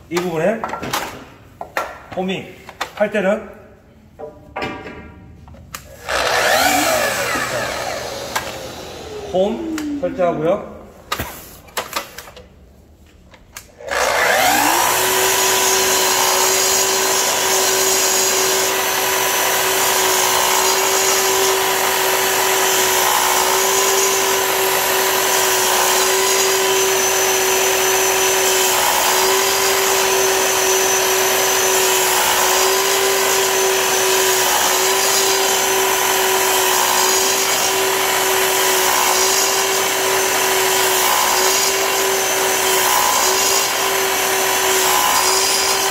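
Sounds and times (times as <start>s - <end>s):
miter saw cutting wood: 5.9s - 10.5s, 13.8s - 45.9s.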